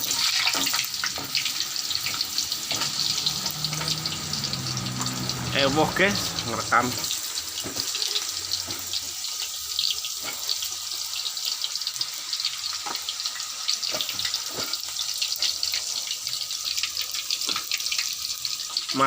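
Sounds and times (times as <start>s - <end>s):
food frying in hot oil: 0.0s - 19.0s.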